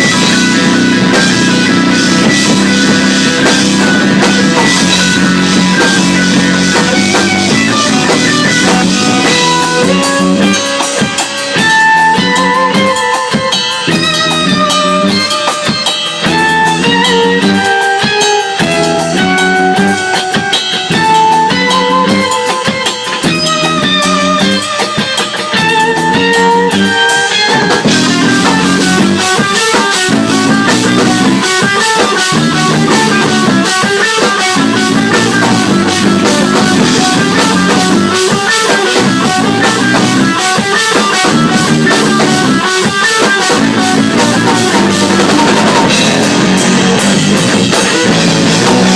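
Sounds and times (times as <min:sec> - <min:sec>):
plucked melody over drums: 0:00.0 - 0:48.9.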